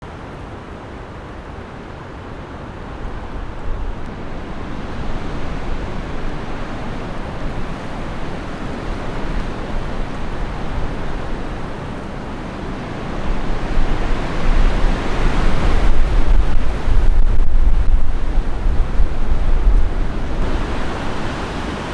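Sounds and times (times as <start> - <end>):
strong wind gusts: 2.3 - 21.9
wind buffeting microphone: 2.9 - 21.9.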